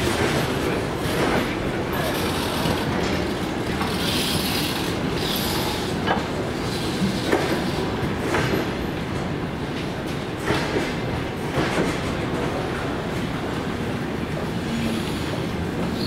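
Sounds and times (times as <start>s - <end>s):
train coaches rumbling: 0.0s - 16.0s.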